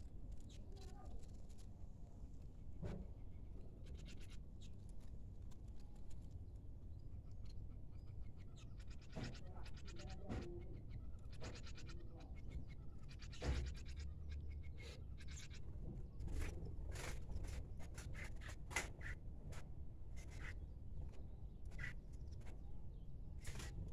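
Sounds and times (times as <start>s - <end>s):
small birds chirping: 3.3s - 19.3s, 20.2s - 23.9s.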